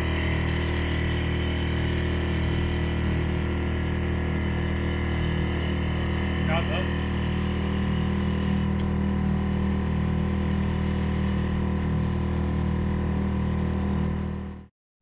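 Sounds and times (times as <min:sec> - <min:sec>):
machine hum: 0:00.0 - 0:14.7.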